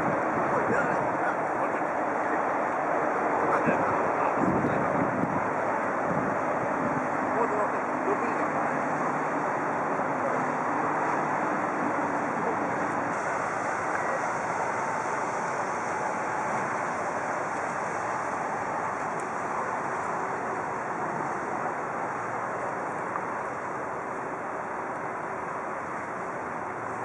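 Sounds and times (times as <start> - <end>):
water noise: 0.0 - 27.0
wind: 0.0 - 27.0.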